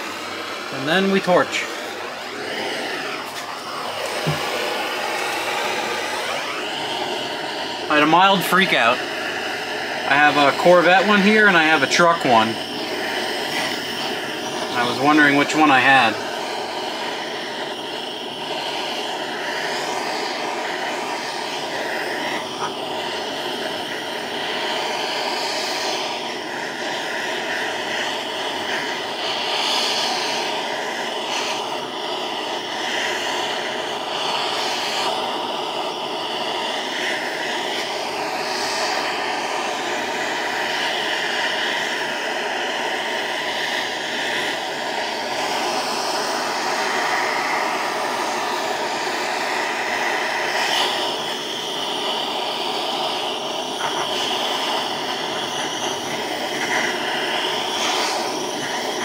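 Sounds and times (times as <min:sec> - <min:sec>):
gas torch roaring: 0:00.0 - 0:59.0.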